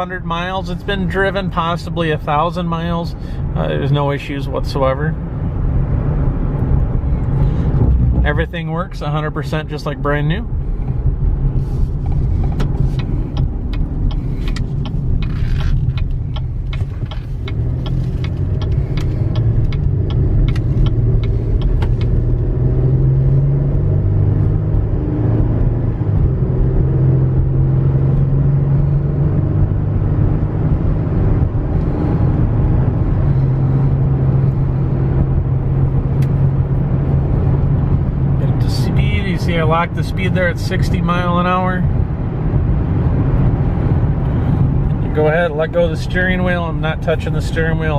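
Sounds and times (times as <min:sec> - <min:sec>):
road noise: 0:00.0 - 0:47.9
engine drone: 0:05.0 - 0:47.9.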